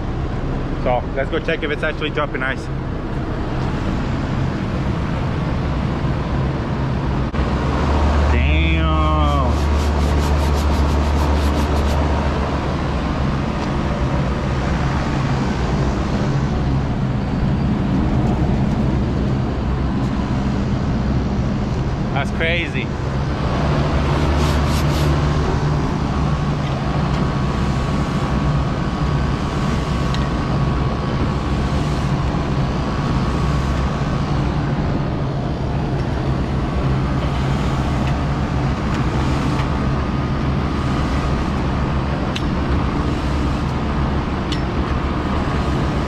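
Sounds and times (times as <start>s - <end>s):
refrigeration compressor hum: 0.0s - 46.0s
faint whine: 3.6s - 46.0s.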